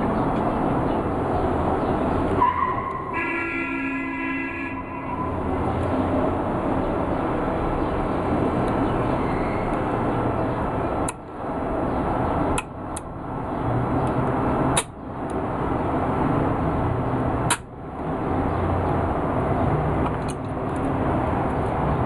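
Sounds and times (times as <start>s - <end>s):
steady background noise: 0.0s - 22.0s.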